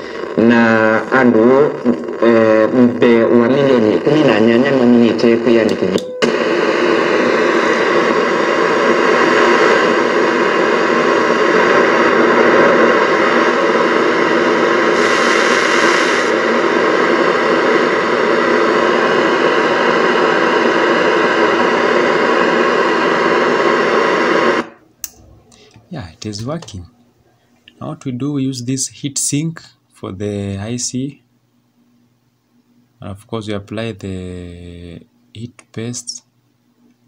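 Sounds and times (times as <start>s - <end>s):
radio static hiss: 0.0s - 27.0s, 33.3s - 36.3s.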